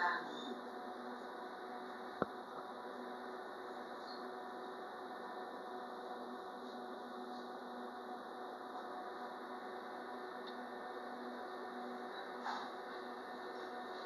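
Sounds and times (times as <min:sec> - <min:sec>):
multi-tone hum: 0:00.0 - 0:14.0.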